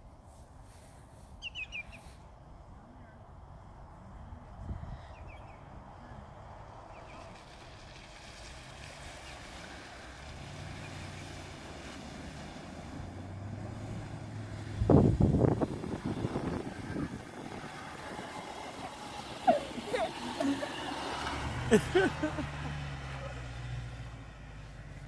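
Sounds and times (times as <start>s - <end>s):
car engine hum: 1.7s - 25.0s
car driving through water: 4.6s - 25.0s.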